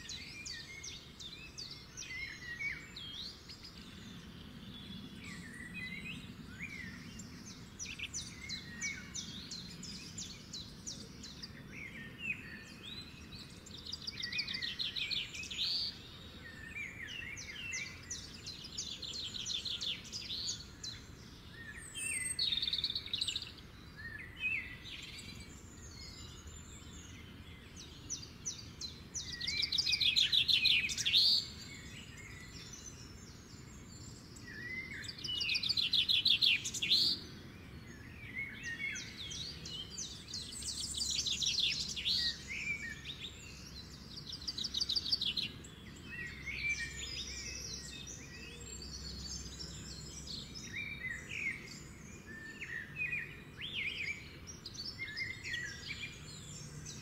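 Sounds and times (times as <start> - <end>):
bird chirps: 0.0 - 57.0
songbirds trilling: 0.0 - 57.0.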